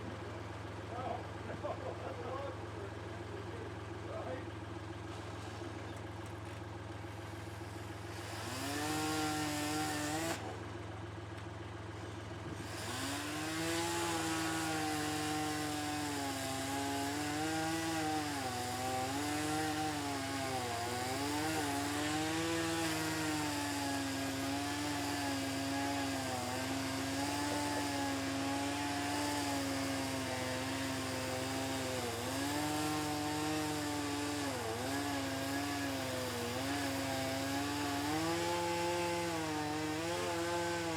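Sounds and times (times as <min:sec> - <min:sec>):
chainsaw cutting: 0:00.0 - 0:10.7, 0:11.4 - 0:40.9.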